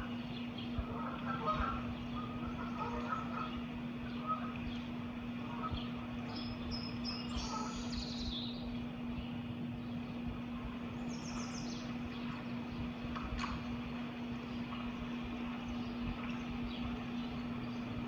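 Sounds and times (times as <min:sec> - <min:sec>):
small songbirds chirping: 0:00.0 - 0:00.9, 0:01.8 - 0:18.0
steady low hum: 0:00.0 - 0:18.0.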